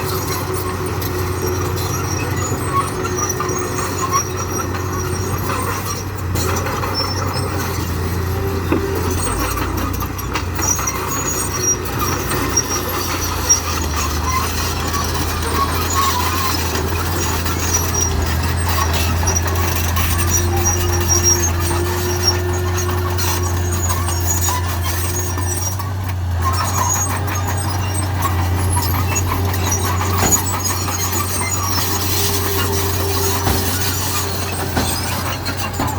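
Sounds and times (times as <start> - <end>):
construction vehicle engines droning: 0.0 - 35.9
high squeaks: 0.0 - 35.9.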